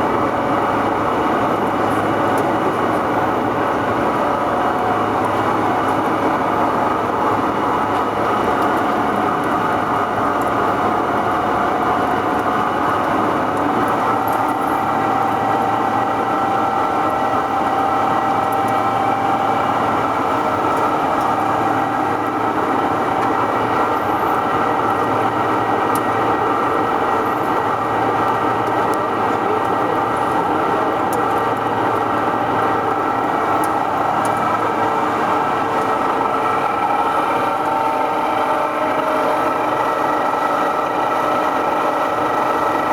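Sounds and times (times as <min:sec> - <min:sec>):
lathe machine noise: 0:00.0 - 0:42.9.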